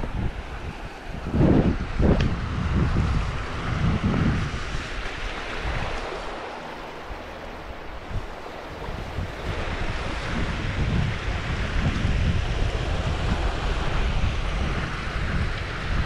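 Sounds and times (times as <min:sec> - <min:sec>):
steady rushing hiss: 0:00.0 - 0:16.0
wind buffeting microphone: 0:00.0 - 0:16.0.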